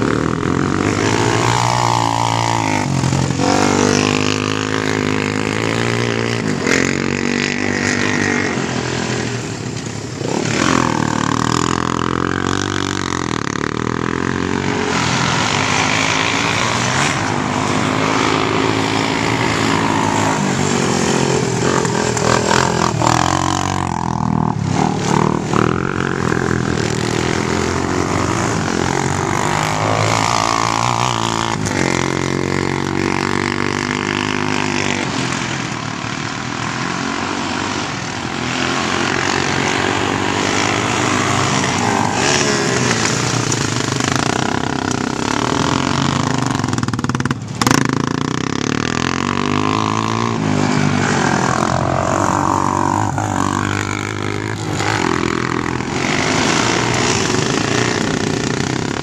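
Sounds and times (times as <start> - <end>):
distant quad engines: 0.0 - 59.0
quad engine revving: 0.0 - 59.0.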